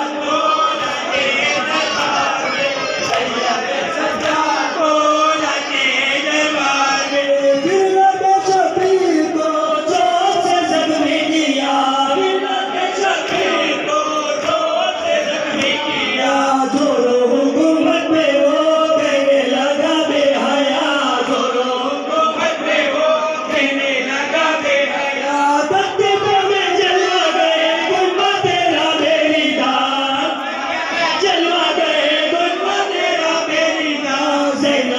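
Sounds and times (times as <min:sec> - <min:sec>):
men chanting in unison: 0:00.0 - 0:34.9.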